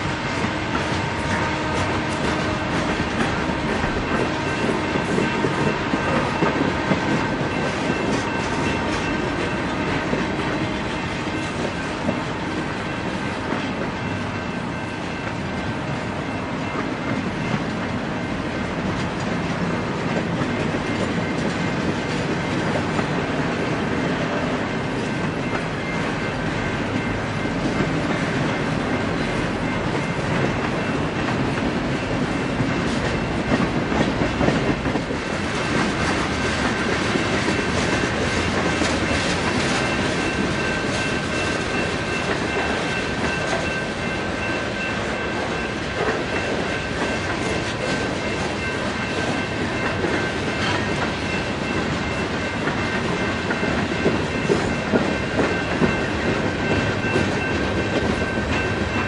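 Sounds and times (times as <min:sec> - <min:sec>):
train wheels rumbling on rail: 0:00.0 - 0:59.0
wheels clacking over rail joints: 0:00.0 - 0:59.0.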